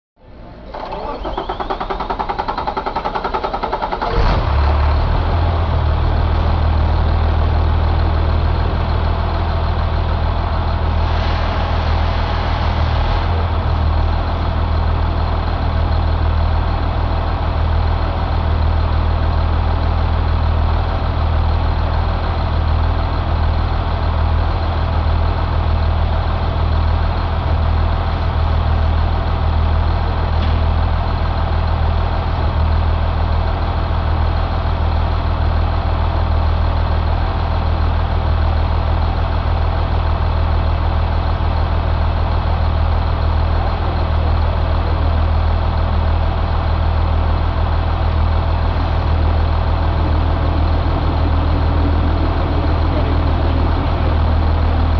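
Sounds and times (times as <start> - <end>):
diesel engine cranking and idling: 0.2 - 54.9.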